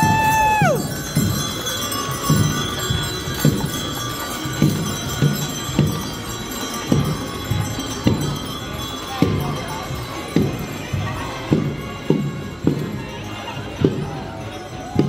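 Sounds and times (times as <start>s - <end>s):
crowd noise: 0.0s - 15.0s
steady low thuds: 0.0s - 15.0s.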